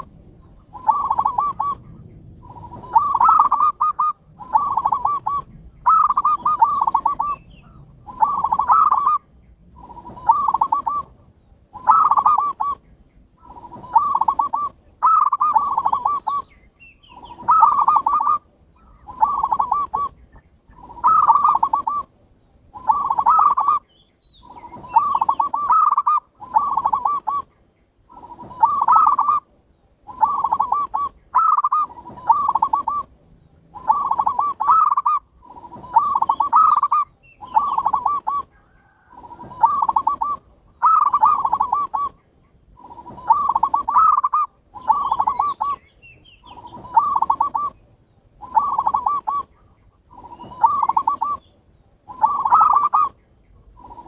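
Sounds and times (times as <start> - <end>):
dove rolling coos: 0.0 - 12.8, 13.4 - 22.1, 22.7 - 47.8, 48.4 - 51.5, 52.1 - 54.0.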